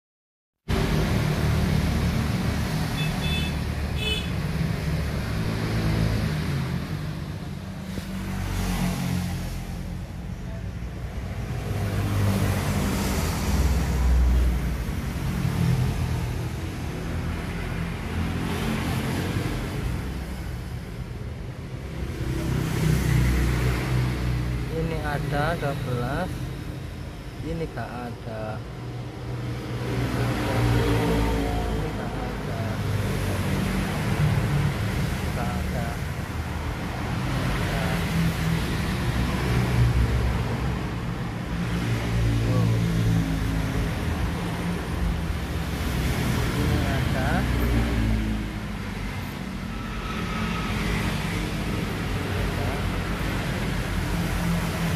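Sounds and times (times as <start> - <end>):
road traffic rumble: 0.6 - 54.9.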